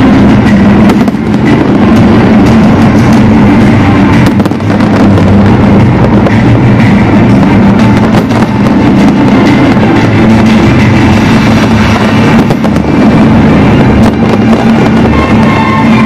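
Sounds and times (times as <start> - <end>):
deep rumble: 0.0 - 16.0.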